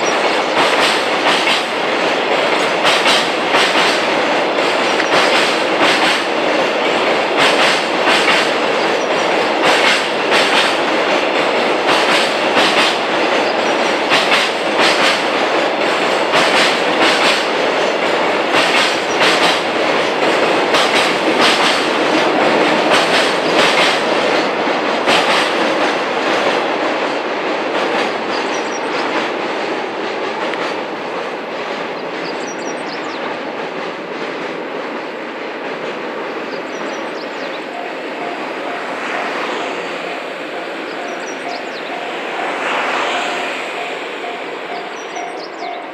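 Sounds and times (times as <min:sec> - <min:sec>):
train rolling roar: 0:00.0 - 0:45.9
train wheels clacking over rail joints: 0:00.0 - 0:45.9.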